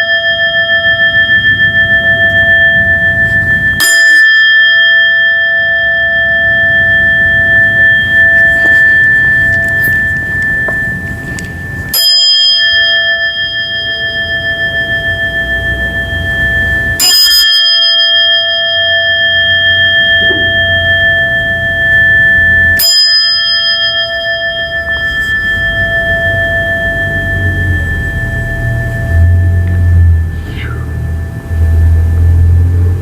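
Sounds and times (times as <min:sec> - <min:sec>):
bowl bell ringing: 0:00.0 - 0:33.0.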